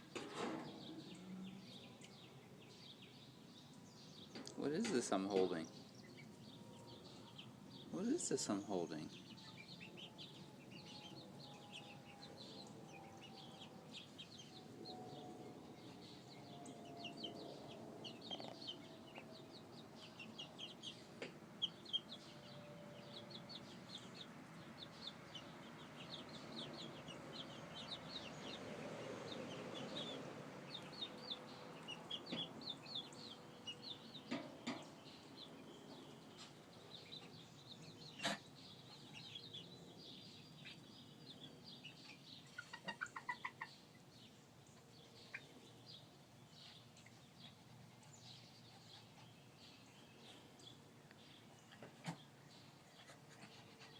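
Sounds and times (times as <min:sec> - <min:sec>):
chicks peeping: 0:00.1 - 0:53.9.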